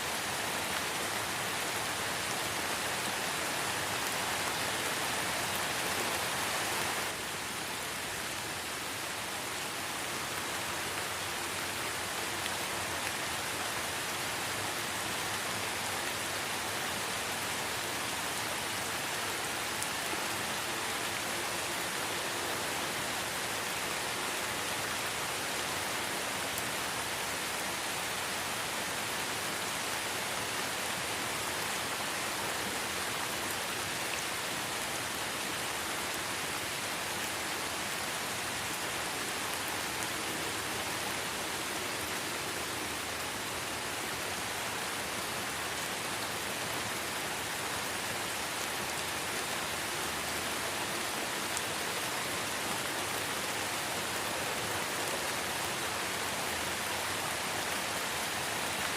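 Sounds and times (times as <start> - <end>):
light rain in forest: 0.0 - 58.9.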